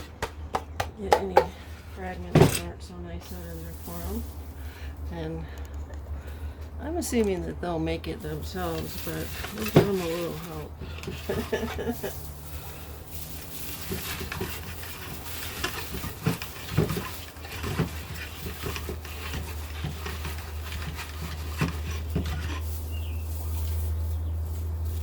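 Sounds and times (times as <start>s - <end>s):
dry hay rustling: 1.4s - 25.0s.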